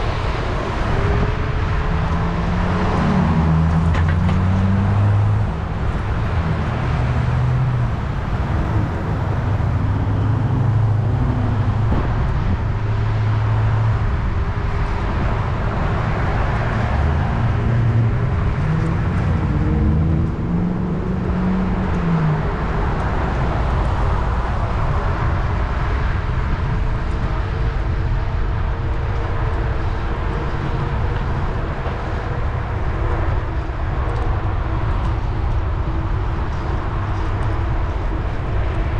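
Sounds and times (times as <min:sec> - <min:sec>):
passing vehicles hum: 0:00.0 - 0:38.9
wind rumble on microphone: 0:00.0 - 0:38.9.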